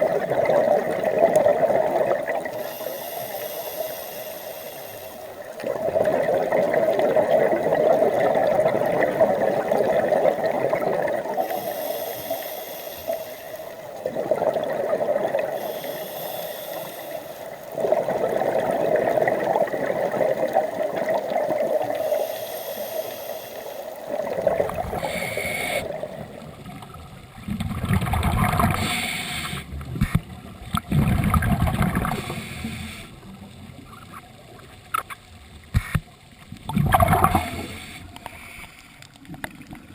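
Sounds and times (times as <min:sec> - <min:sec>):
sea water gurgling and sloshing: 0:00.0 - 0:39.9.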